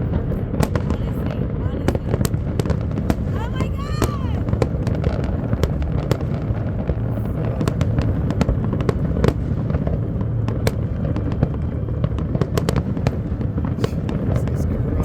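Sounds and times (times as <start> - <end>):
fireworks bangs and crackling: 0.0 - 15.0
low rumble of distant detonations: 0.0 - 15.0.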